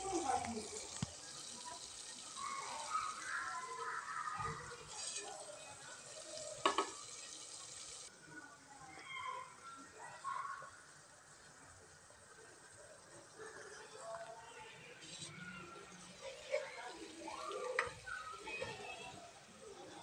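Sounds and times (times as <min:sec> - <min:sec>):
sauce sizzling in saucepan: 0:00.0 - 0:08.1, 0:09.5 - 0:20.0.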